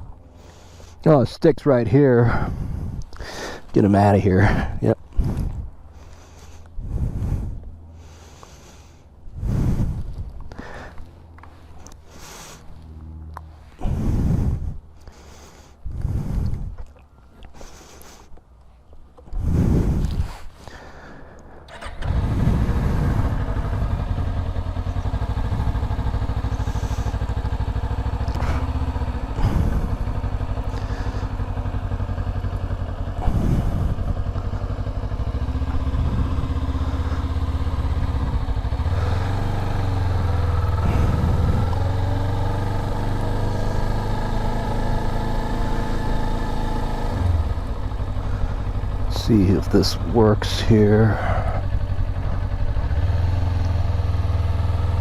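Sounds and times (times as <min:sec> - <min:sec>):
motorcycle engine running: 0:02.2 - 0:16.8, 0:19.4 - 0:55.0.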